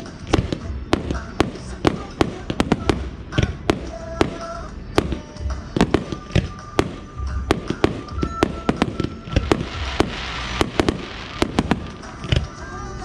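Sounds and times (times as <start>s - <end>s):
fireworks bangs: 0.0s - 12.6s
hissing crackle of fireworks: 0.0s - 12.7s.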